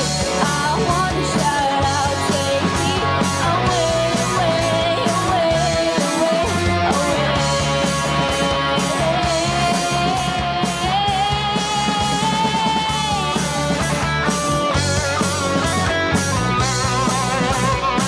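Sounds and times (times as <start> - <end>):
lead guitar bending notes: 0.0 - 18.0
rock band playing: 0.0 - 18.0.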